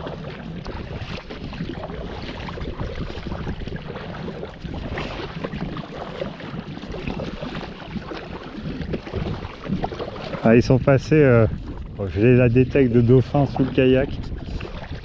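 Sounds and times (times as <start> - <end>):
kayak paddle strokes: 0.0 - 15.0
water lapping against hull: 0.0 - 15.0
wind buffeting microphone: 0.0 - 15.0.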